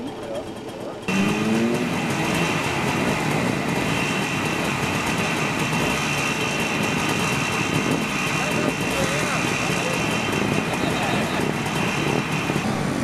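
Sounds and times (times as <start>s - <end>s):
many small engines idling: 0.0s - 13.0s.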